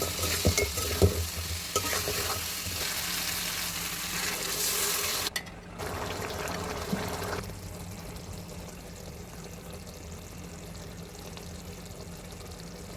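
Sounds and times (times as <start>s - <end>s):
soft steady frying hiss: 0.0s - 12.9s.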